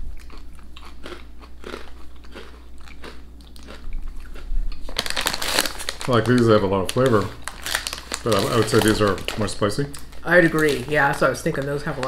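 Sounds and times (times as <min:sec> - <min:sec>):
chips crunching while chewed: 0:00.0 - 0:12.0.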